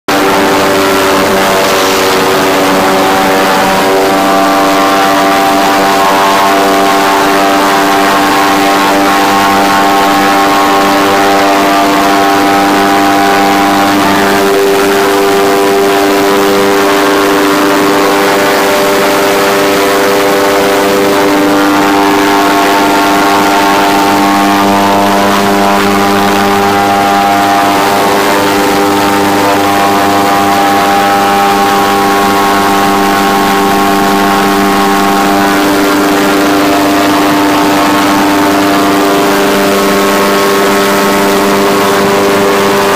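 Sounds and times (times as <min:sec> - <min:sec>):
airboat engine and propeller drone: 0:00.1 - 0:42.9.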